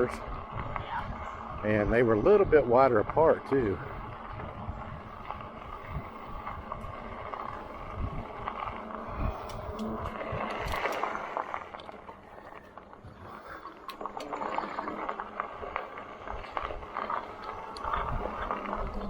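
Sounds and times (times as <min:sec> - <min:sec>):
bicycle tyres rolling on trail: 0:00.0 - 0:19.0
crackles and rattles: 0:00.0 - 0:19.0
wind noise on microphone: 0:00.0 - 0:19.0.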